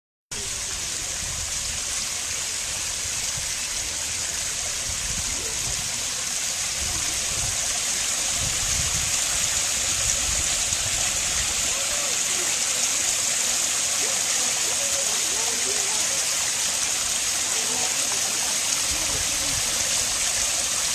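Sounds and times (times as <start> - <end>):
waterfall splashing into pool: 0.3 - 20.9.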